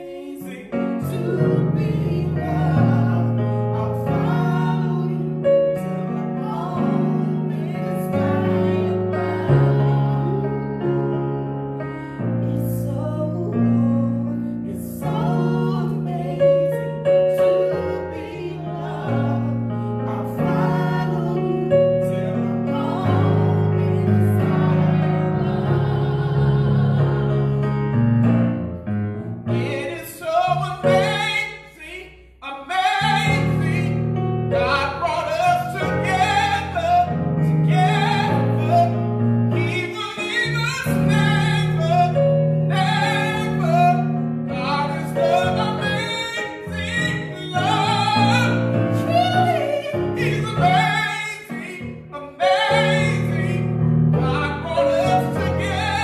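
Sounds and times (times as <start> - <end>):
keyboard piano chords: 0.0 - 56.0.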